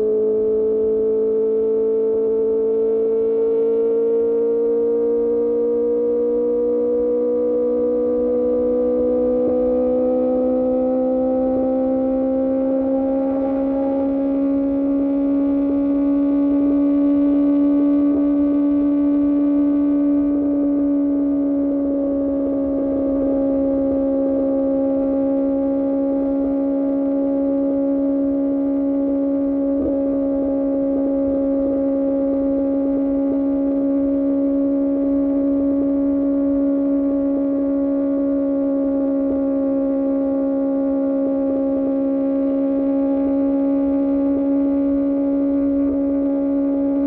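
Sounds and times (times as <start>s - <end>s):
motorcycle engine droning: 0.0s - 47.0s.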